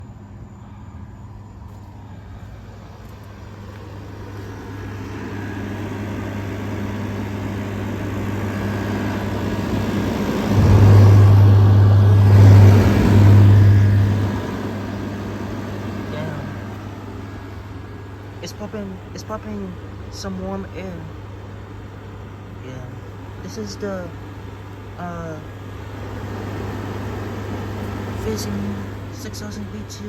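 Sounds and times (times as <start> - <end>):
air conditioner compressor hum: 0.0 - 30.0
air conditioner fan rushing: 0.0 - 30.0.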